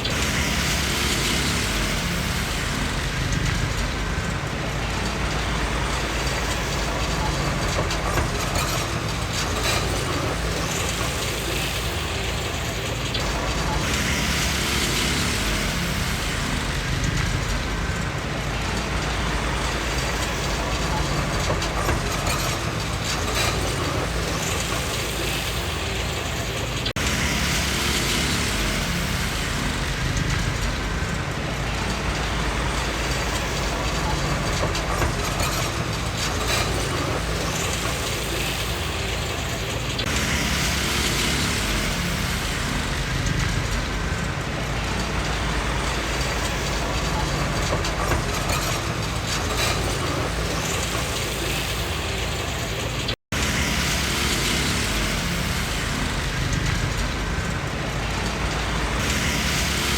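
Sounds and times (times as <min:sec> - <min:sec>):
bulldozer diesel engine running: 0:00.0 - 0:59.9
steel tracks clanking and rattling: 0:00.0 - 0:59.9.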